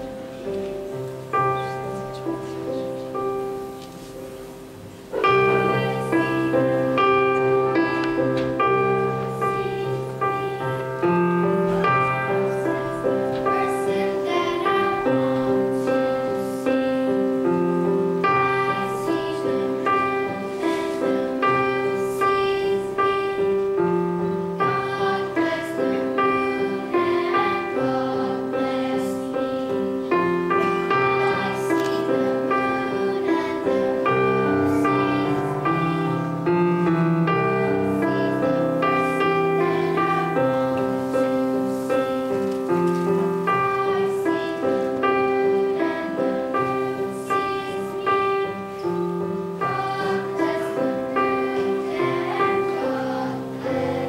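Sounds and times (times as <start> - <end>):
electronic keyboard piano accompaniment: 0.0 - 54.0
girls singing: 5.1 - 54.0.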